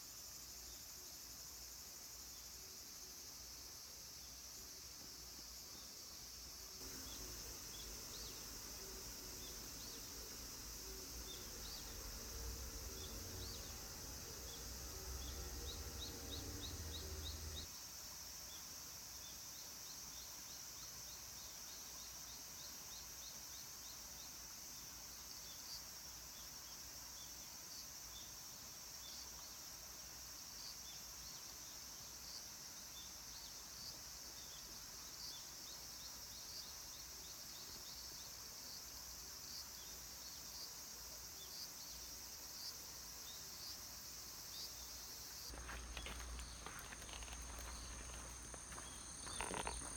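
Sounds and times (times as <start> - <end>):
insects chirping: 0.0 - 49.9.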